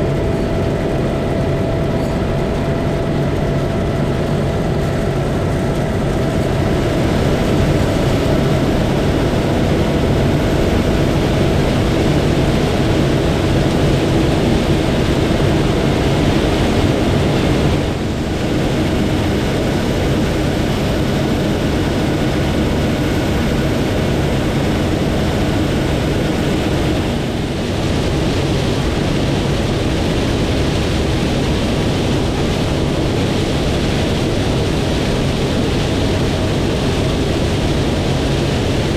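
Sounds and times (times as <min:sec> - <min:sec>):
harvest machinery droning: 0:00.0 - 0:38.9.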